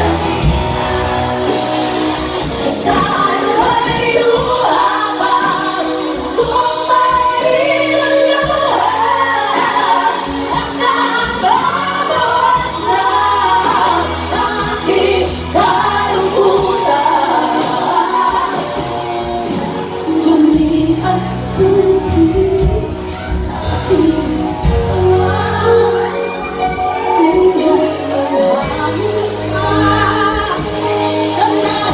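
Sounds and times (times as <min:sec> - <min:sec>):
bass guitar: 0:00.0 - 0:31.9
electric guitar: 0:00.0 - 0:31.9
women singing together: 0:00.0 - 0:31.9.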